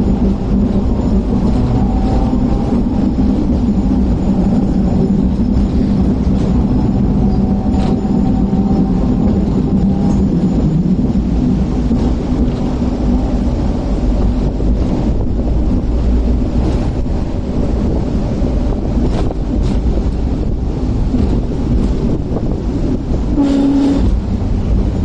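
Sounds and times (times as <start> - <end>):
tram wheels and motor rumbling: 0.0 - 25.0
wind noise on microphone: 0.0 - 25.0.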